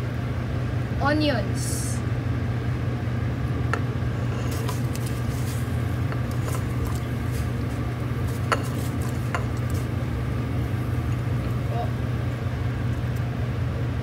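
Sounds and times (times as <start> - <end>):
low kitchen rumble: 0.0 - 14.0.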